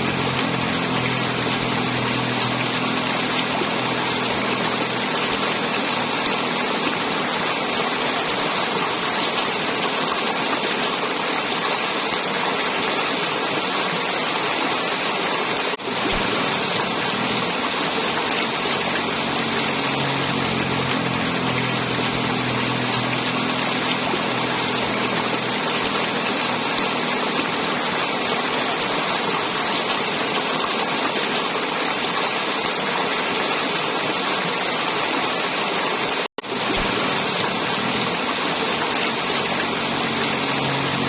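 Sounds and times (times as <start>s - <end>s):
river water flowing over rocks: 0.0s - 41.0s.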